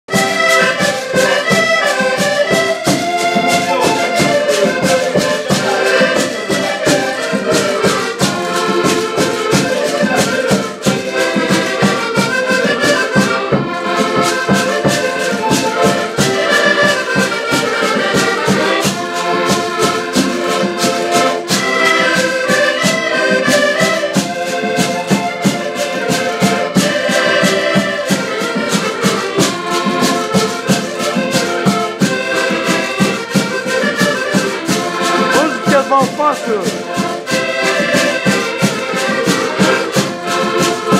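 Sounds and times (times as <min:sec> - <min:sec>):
accordions playing folk tune: 0:00.0 - 0:40.9.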